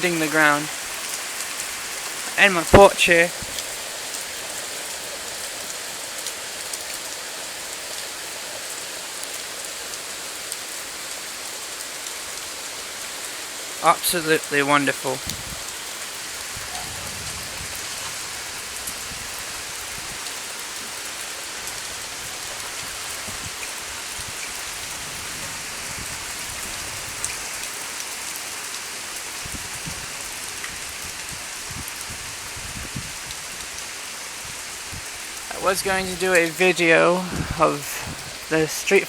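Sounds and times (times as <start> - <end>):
heavy rain pounding the ground: 0.0 - 39.0.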